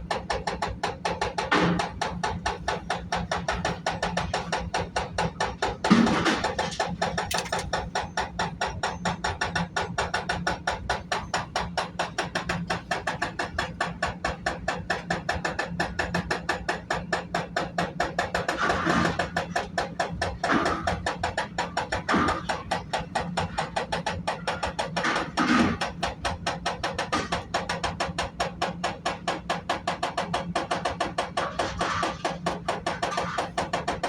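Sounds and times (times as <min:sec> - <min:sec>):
excavator engine hum: 0:00.0 - 0:34.0
hydraulic breaker pounding concrete: 0:00.0 - 0:34.0.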